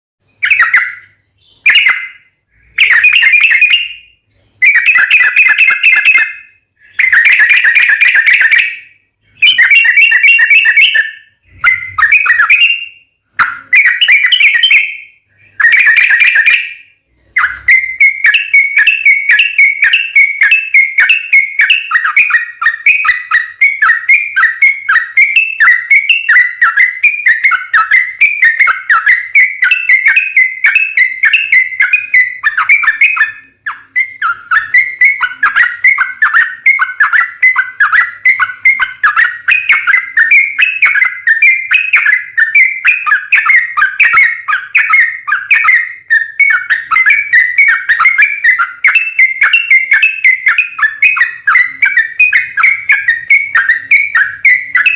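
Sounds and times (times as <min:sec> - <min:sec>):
bird singing whistled phrases: 0:00.2 - 0:54.9
bird rapid chattering notes: 0:00.4 - 0:54.9.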